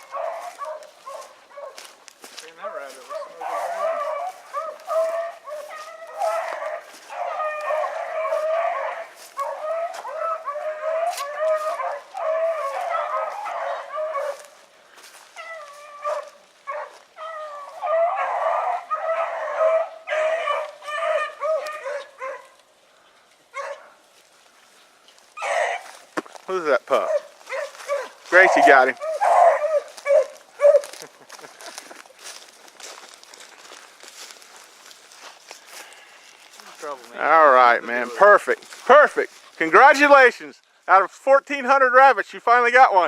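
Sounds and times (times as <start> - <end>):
hounds baying: 0.0 - 24.3, 25.1 - 26.2, 26.8 - 40.3.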